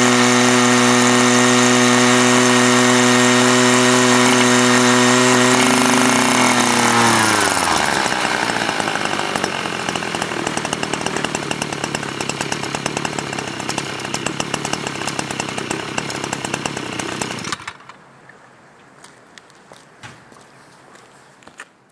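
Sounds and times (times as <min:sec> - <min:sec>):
small petrol engine idling: 0:00.0 - 0:17.9.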